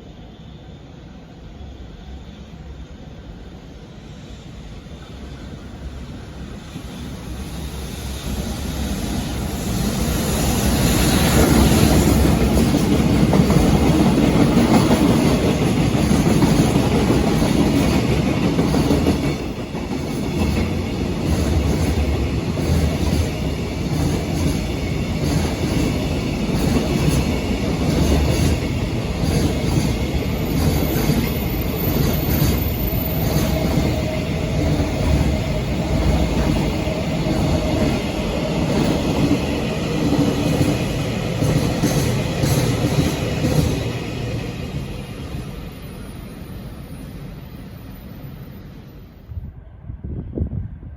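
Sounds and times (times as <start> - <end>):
freight train passing: 0.0 - 50.9.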